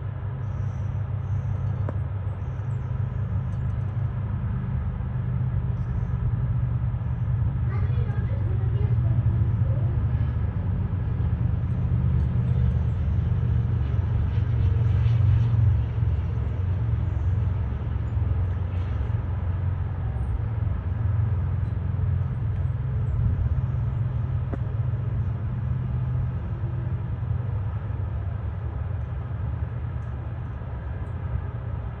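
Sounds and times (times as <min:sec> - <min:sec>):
jet engines low rumble: 0:00.0 - 0:32.0.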